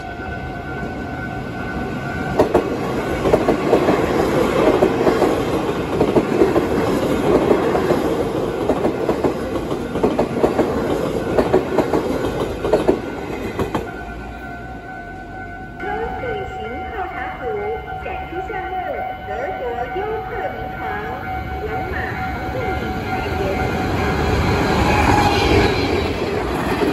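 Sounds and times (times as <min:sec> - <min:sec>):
level crossing warning bell: 0:00.0 - 0:26.8
train passing with wheel clacks: 0:00.0 - 0:26.9.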